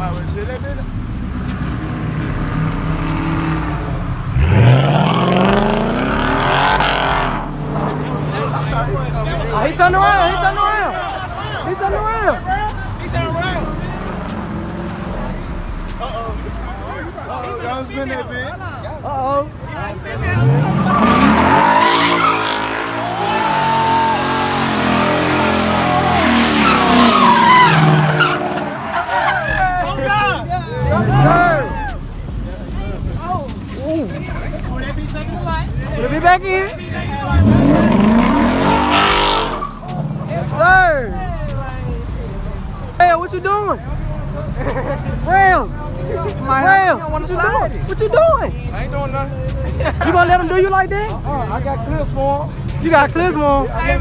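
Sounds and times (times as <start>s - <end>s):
car engine revving: 0.0s - 18.4s, 20.0s - 54.0s
tyres squealing on pavement: 0.0s - 54.0s.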